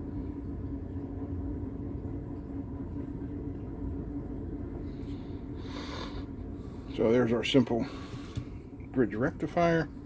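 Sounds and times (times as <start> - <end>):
faint constant tone: 0.0 - 10.0
low room hum: 0.0 - 10.0.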